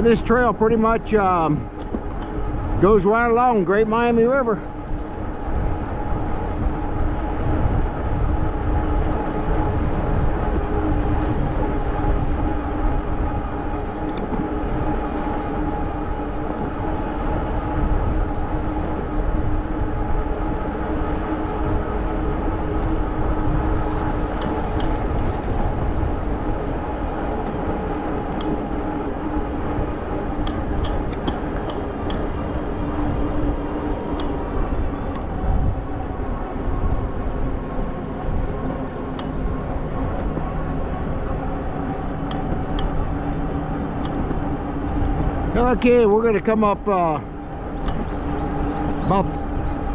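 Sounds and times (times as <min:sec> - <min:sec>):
electric bike whine: 0:00.0 - 0:49.9
wind rumble on microphone: 0:00.0 - 0:49.9.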